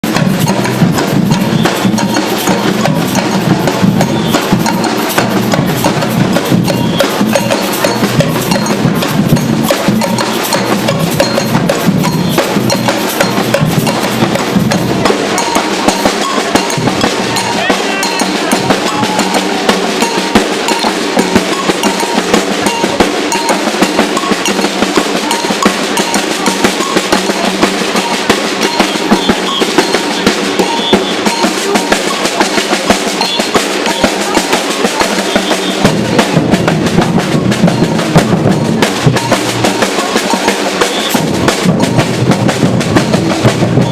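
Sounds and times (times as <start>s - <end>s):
snare drums playing fast rhythm: 0.0s - 43.9s.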